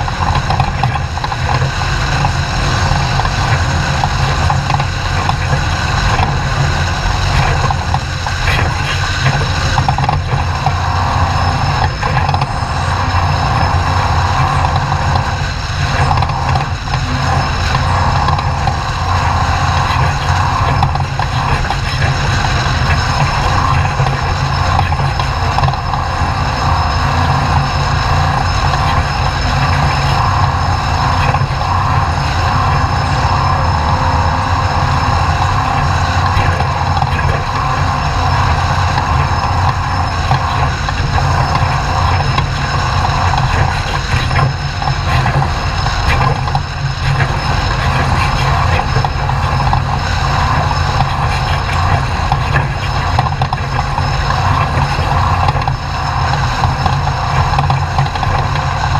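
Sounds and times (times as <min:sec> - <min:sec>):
truck engine droning: 0:00.0 - 0:58.9.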